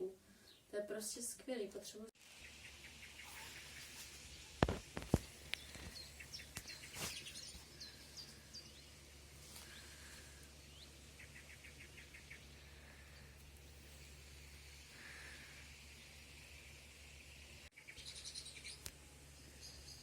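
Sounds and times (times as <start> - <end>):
small birds chirping: 2.2 - 20.0
steady low hum: 2.3 - 20.0.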